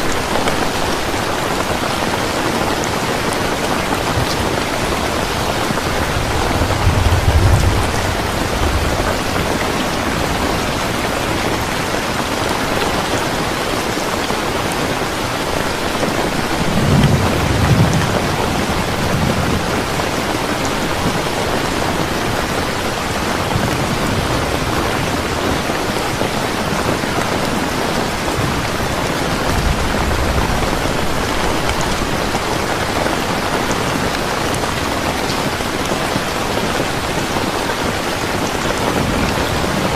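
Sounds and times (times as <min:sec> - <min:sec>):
heavy rain falling: 0:00.0 - 0:39.9
thunder rumbling: 0:02.8 - 0:13.8, 0:14.9 - 0:39.9.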